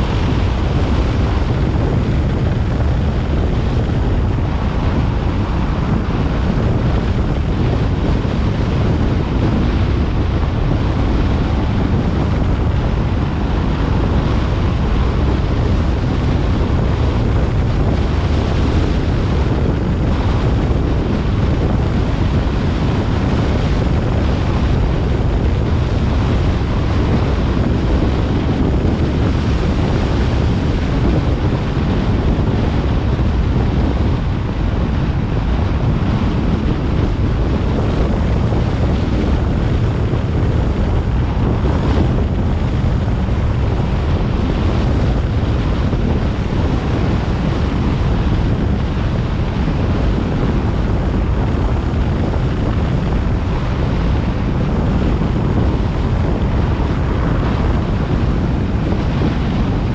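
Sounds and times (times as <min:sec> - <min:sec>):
car road and engine rumble: 0:00.0 - 0:59.9
wind buffeting microphone: 0:00.0 - 0:59.9.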